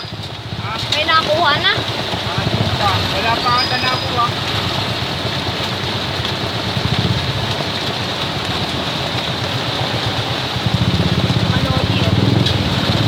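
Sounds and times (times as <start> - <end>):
low pulsing engine rumble: 0.0 - 13.0
steady rain hiss: 0.0 - 13.0.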